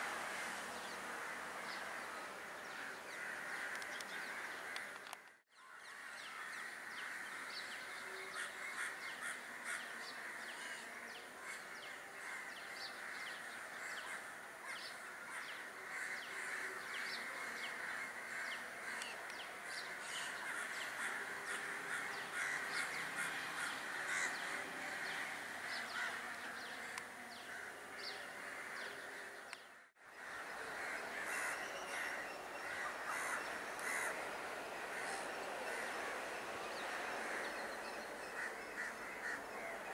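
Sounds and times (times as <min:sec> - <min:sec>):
crows cawing: 0:01.2 - 0:39.8.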